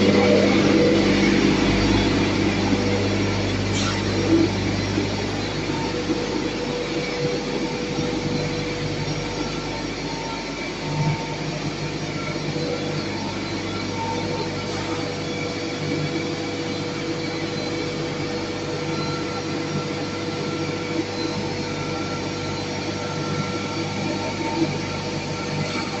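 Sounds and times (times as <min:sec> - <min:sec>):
hammer mill running: 0:00.0 - 0:26.0.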